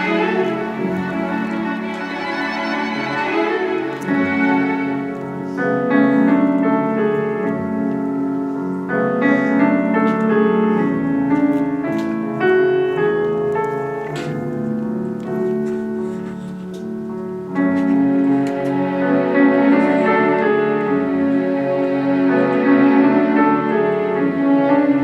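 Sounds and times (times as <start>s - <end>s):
classical piano music: 0.0s - 25.0s.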